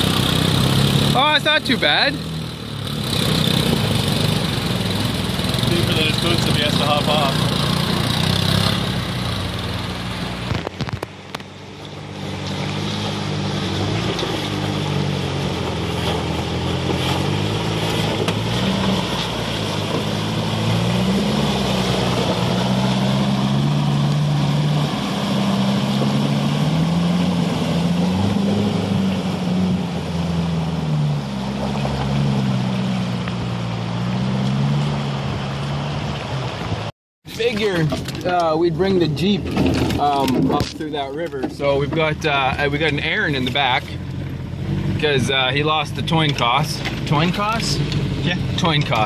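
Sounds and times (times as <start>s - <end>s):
truck engine revving: 0.0s - 49.0s
water splashing around tyres: 0.0s - 49.0s.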